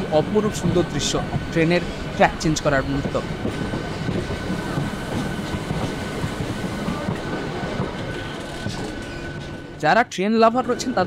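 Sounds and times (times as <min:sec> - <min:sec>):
train wheels clattering over rails: 0:00.0 - 0:09.8.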